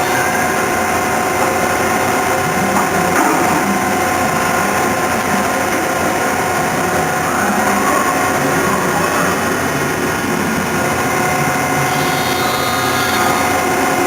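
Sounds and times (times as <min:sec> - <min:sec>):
machine humming and whining: 0:00.0 - 0:14.0.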